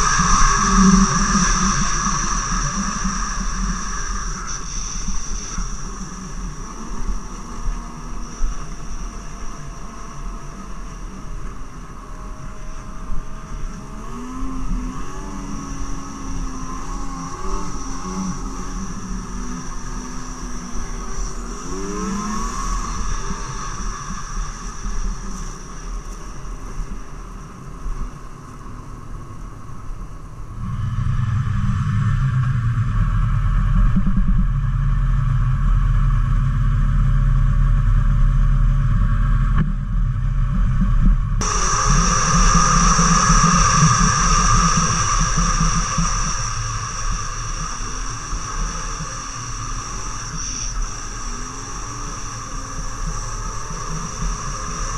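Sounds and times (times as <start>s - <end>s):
snowmobile engine: 0.0s - 54.9s.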